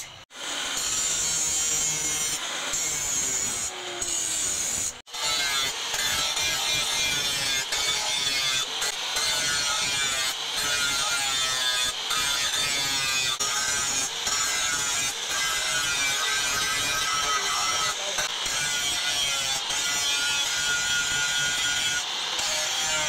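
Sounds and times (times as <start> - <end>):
angle grinder grinding steel: 0.0 - 23.0.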